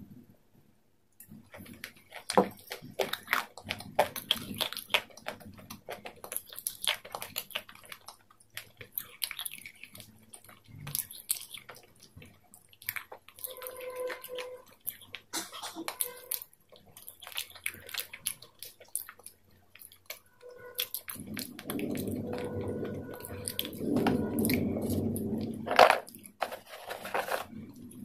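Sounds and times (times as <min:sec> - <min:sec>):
chewing and wet mouth sounds: 0:01.2 - 0:26.4.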